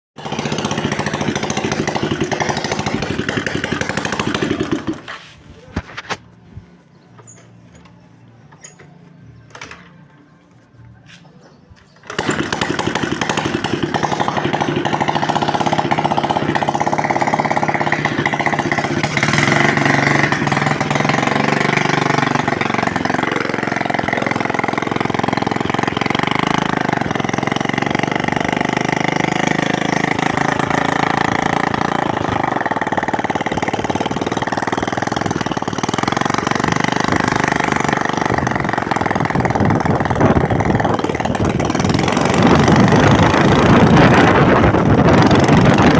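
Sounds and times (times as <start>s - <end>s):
motorcycle engine revving: 0.2s - 6.3s, 11.9s - 45.9s.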